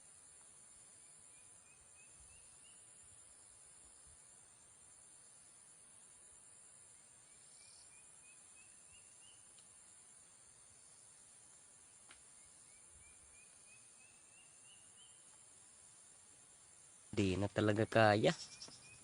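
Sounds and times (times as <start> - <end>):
crickets buzzing: 0.0 - 19.0.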